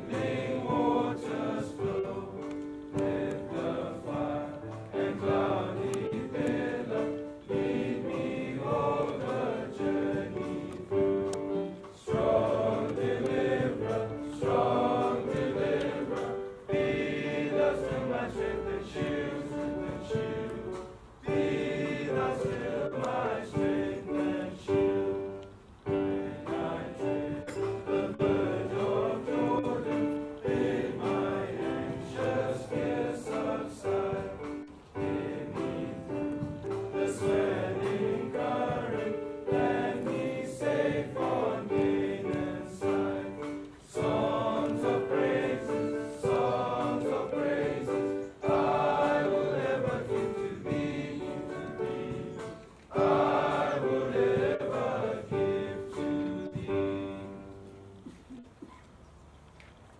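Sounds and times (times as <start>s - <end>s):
boys choir singing a hymn: 0.0s - 58.8s.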